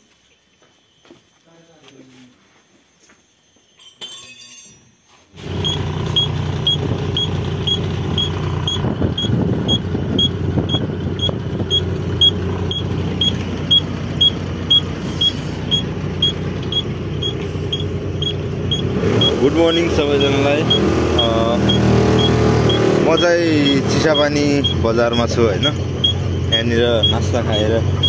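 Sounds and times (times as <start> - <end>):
truck engine and road noise: 5.3 - 28.0.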